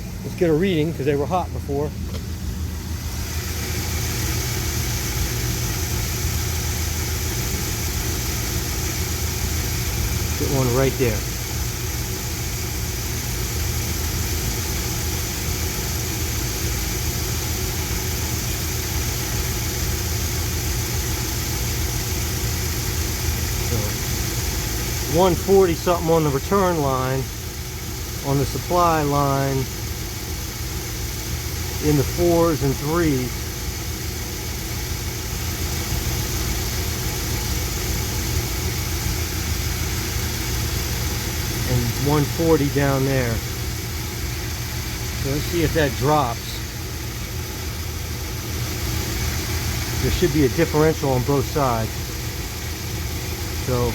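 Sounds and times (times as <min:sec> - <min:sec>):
pickup engine idling: 0:00.0 - 0:53.9.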